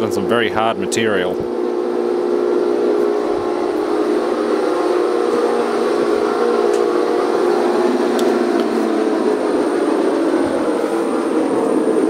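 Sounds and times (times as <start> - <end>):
lathe whirring: 0.0 - 12.0.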